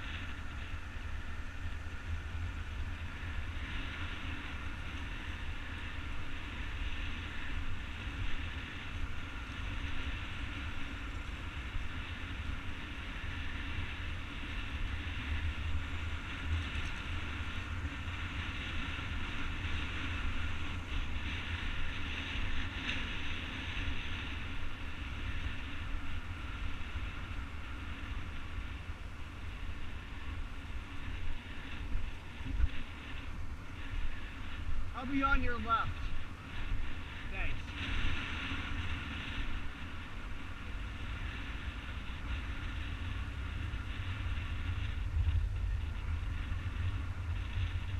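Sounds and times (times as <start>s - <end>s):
skate wheels rolling on asphalt: 0.0s - 47.9s.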